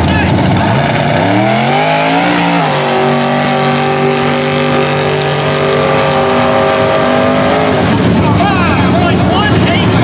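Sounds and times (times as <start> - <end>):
truck engine at high revs: 0.0 - 10.0.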